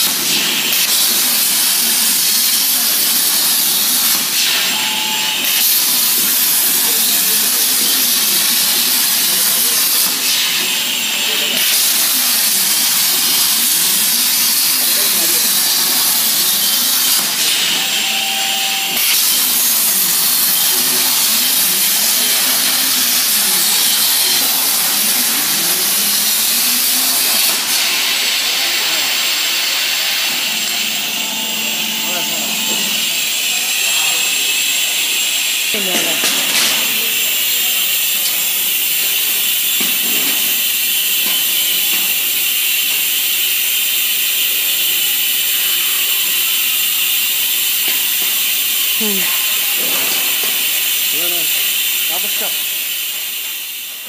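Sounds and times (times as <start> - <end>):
plasma cutter torch hissing: 0.0 - 54.0.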